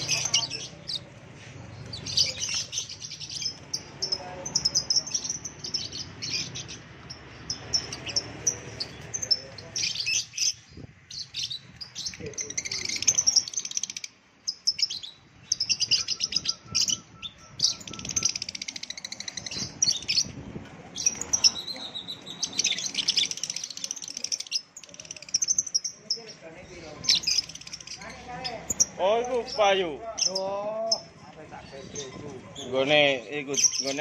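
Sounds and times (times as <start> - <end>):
lovebirds chattering: 0.0 - 34.0.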